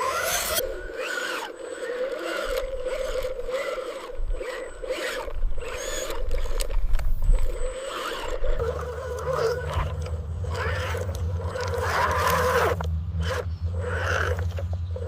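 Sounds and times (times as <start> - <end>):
motor whine: 0.0 - 15.0
scraping and grinding of dirt: 0.0 - 15.0
short whirs from drives: 0.0 - 15.0.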